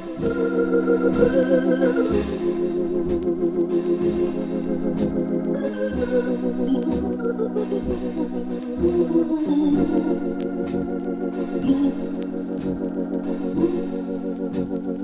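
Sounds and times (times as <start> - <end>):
organ playing wavering chords: 0.0 - 15.0.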